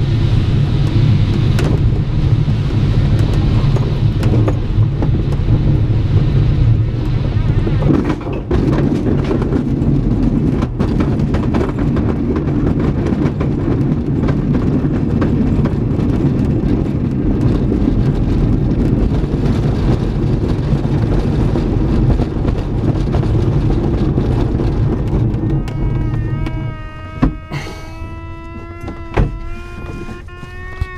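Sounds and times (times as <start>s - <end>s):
wheel rumbling over turf: 0.0s - 30.9s
airframe rattling: 1.0s - 30.9s.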